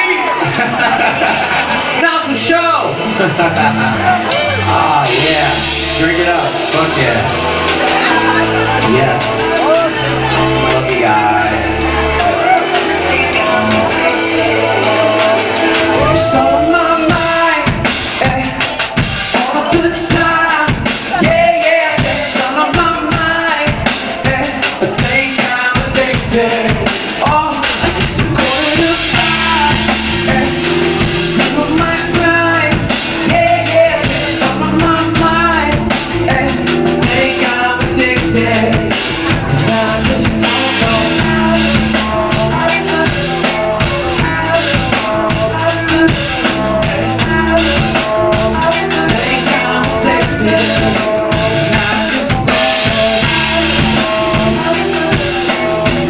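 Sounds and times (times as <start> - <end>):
bass notes: 0.0 - 56.0
drum kit beat: 0.0 - 56.0
man singing: 2.0 - 56.0.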